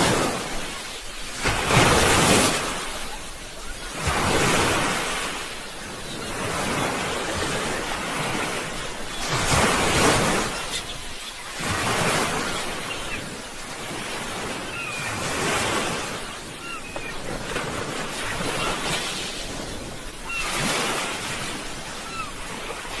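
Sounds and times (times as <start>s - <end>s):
sea waves breaking on shore: 0.0s - 23.0s.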